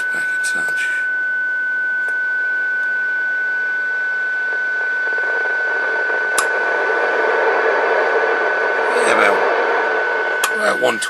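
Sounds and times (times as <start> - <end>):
receiver hiss: 0.0 - 11.0.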